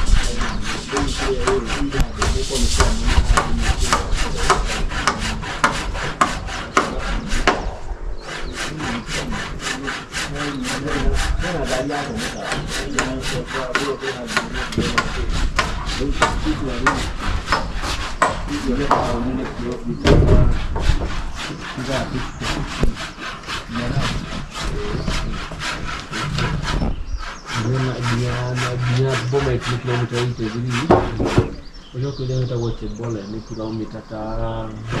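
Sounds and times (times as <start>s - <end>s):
handsaw cutting wood: 0.0s - 32.5s, 33.1s - 35.0s.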